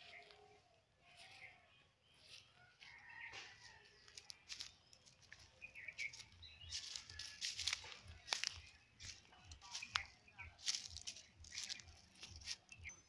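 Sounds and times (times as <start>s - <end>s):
faint bird chirps: 0.0s - 13.0s
footsteps crunching dry leaves: 0.0s - 13.0s.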